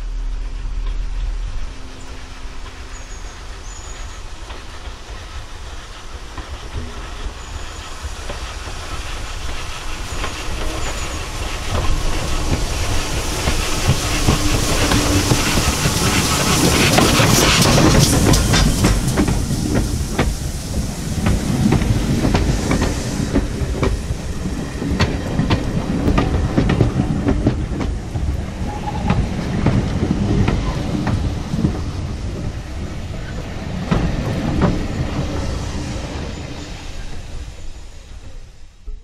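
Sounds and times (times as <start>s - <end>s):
steam locomotive hissing: 0.0s - 39.0s
wheels clicking over rail joints: 2.6s - 37.1s.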